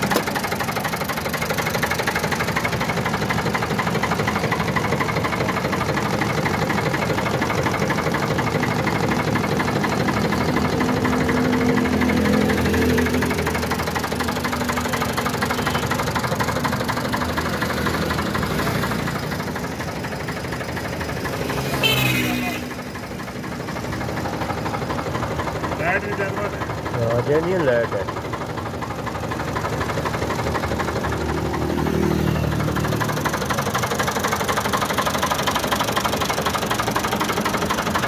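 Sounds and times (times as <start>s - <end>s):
tractor diesel engine idling: 0.0s - 38.0s.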